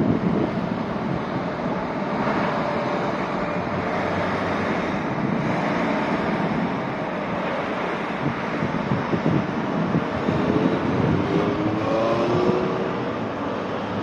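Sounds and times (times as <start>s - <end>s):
cars passing: 0.0s - 14.0s
truck passing: 0.0s - 14.0s.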